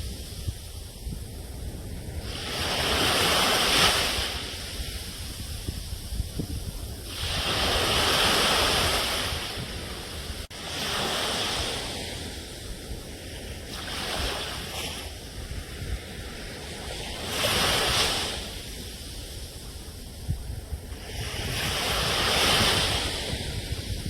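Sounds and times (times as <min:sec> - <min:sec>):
ocean waves breaking: 0:00.0 - 0:24.0.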